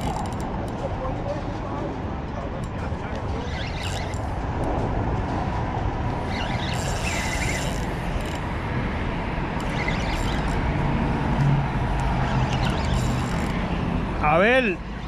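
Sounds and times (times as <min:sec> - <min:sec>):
traffic rumble on bridge: 0:00.0 - 0:15.0.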